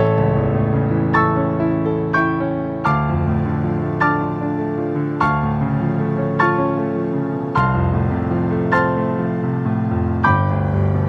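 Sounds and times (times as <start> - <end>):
gentle keyboard chords: 0.0 - 11.0.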